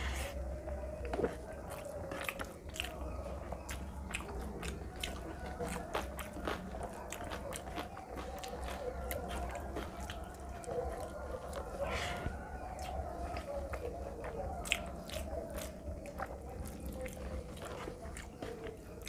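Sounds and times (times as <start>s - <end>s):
wet chewing and mouth clicks: 0.1s - 19.0s.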